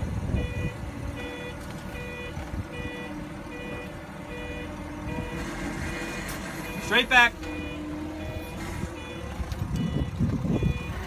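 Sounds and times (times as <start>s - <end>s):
reversing alarm beeping: 0.3s - 11.0s.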